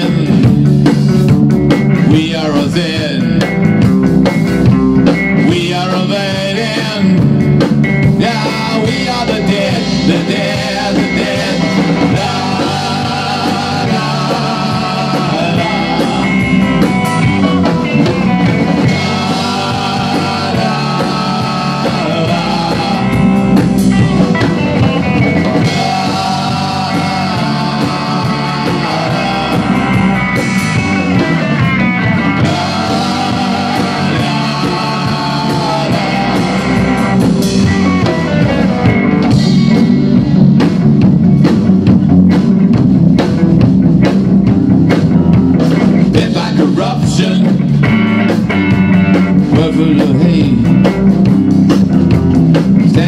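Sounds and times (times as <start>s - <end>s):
drum kit and cymbals: 0.0s - 53.0s
electric bass: 0.0s - 53.0s
electric guitar lead: 0.0s - 53.0s.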